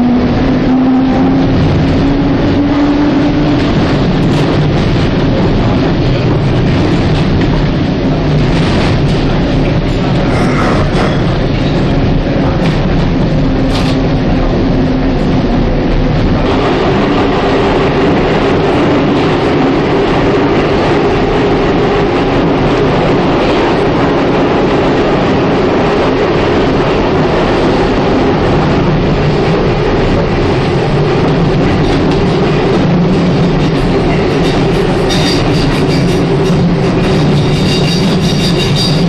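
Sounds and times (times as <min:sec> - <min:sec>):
low train hum: 0:00.0 - 0:39.0
train wheels on rails: 0:00.0 - 0:39.0.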